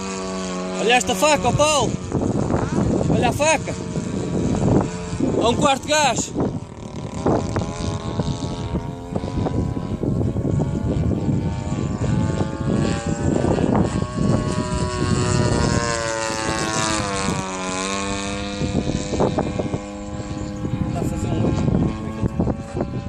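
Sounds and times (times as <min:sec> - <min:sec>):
model plane engine drone: 0:00.0 - 0:23.0
wind buffeting microphone: 0:00.0 - 0:23.0.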